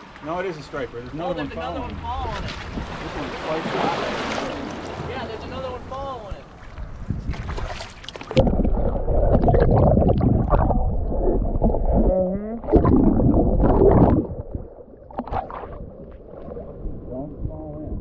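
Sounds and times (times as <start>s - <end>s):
seawater sloshing and gurgling: 2.1s - 17.2s.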